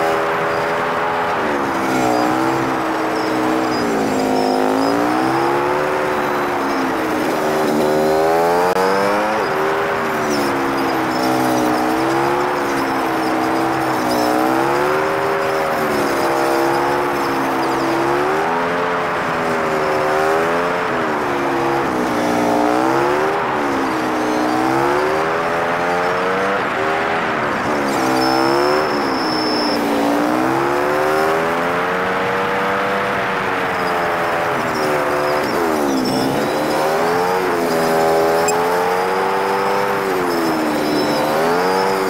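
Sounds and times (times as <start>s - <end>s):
sped-up motorcycle engine: 0.0s - 42.0s.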